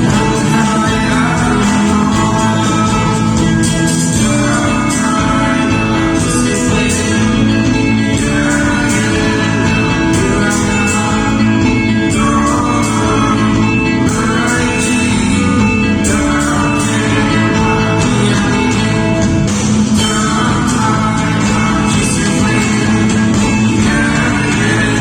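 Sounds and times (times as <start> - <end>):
live gospel band playing: 0.0 - 25.0
singing: 0.0 - 25.0.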